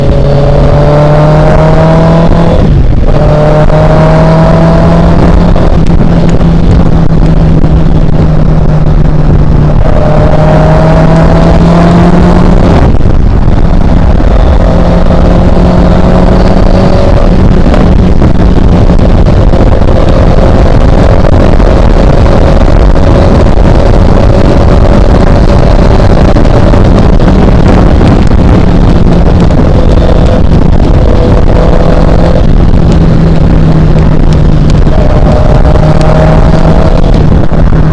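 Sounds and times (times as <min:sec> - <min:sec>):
motorcycle engine hum: 0:00.0 - 0:37.9
wind roar: 0:00.0 - 0:37.9.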